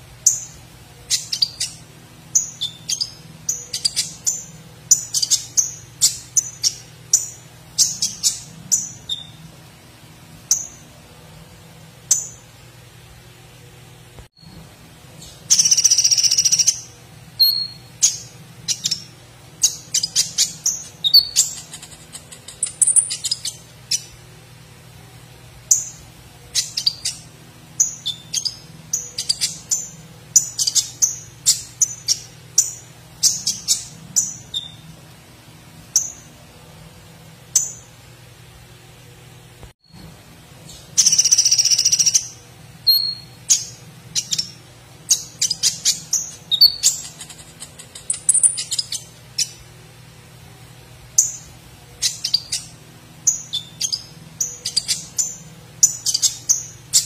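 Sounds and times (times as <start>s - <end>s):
bird chirps and trills: 0.0s - 11.4s, 12.0s - 12.6s, 14.4s - 24.3s, 25.6s - 35.0s, 35.8s - 36.6s, 37.4s - 38.1s, 39.8s - 49.8s, 51.0s - 57.0s.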